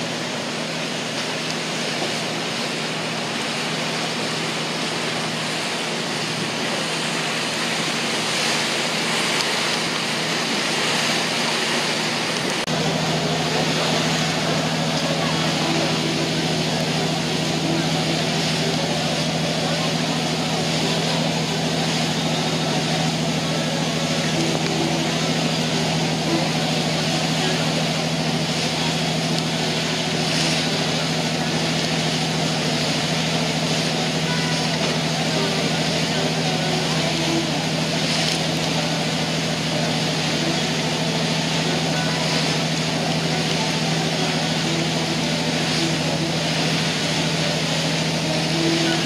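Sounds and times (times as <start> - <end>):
boat engine humming: 0.0 - 49.0
water rushing in wake: 0.0 - 49.0.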